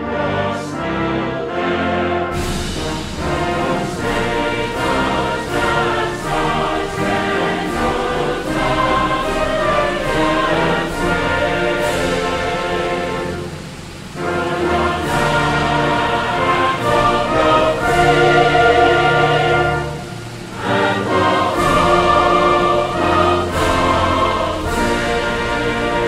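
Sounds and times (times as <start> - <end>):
choir singing with orchestra: 0.0 - 26.0.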